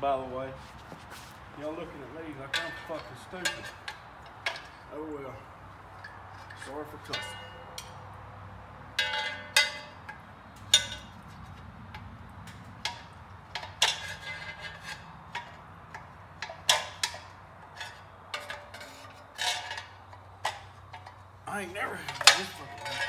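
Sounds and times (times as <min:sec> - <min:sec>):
metal hand tools clinking: 0:02.3 - 0:08.0, 0:09.0 - 0:23.0.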